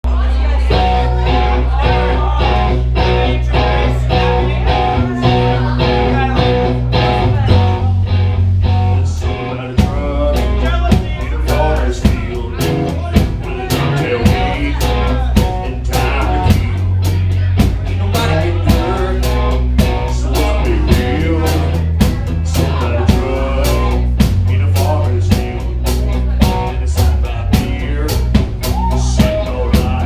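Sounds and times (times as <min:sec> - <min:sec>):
bass guitar: 0:00.0 - 0:30.0
electric guitar: 0:00.2 - 0:30.0
drum kit: 0:00.7 - 0:30.0.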